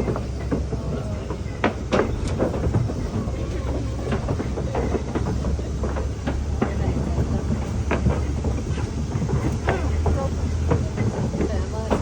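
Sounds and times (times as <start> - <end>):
truck engine and road rumble: 0.0 - 12.0
vehicle knocks and rattles: 0.0 - 12.0.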